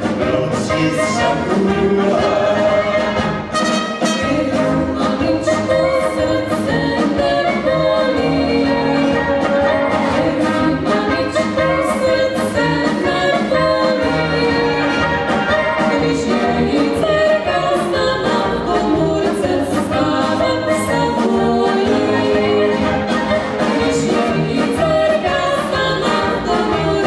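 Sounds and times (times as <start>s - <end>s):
brass band playing: 0.0s - 27.0s
group singing together: 0.0s - 27.0s.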